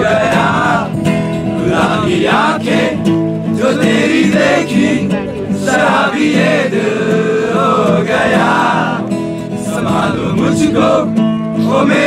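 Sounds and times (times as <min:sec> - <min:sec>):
acoustic guitar: 0:00.0 - 0:12.0
group singing: 0:00.0 - 0:12.0.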